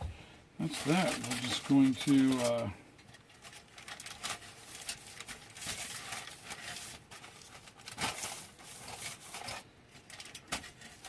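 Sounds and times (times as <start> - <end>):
rustling and rubbing meat in spice: 0.6 - 11.0.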